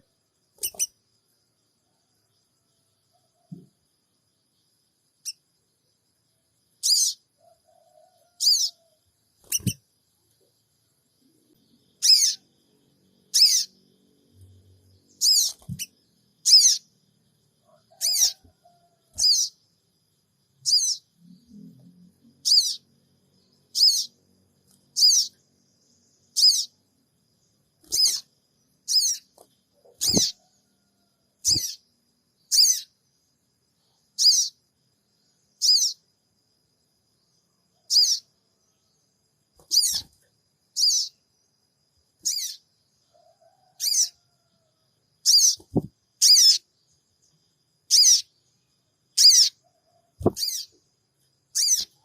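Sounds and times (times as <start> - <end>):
songbird chirping: 0.0 - 52.0.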